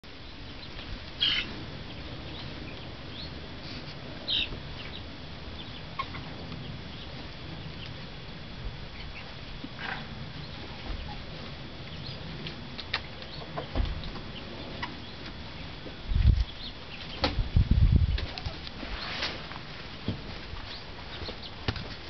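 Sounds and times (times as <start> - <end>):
low background noise: 0.0 - 22.0
chickens calling: 0.1 - 19.6, 20.6 - 22.0.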